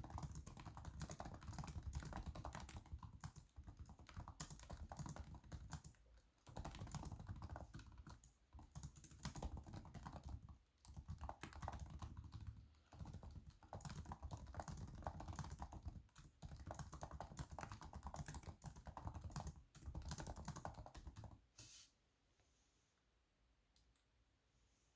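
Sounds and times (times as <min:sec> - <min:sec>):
laptop keyboard typing: 0:00.0 - 0:21.4.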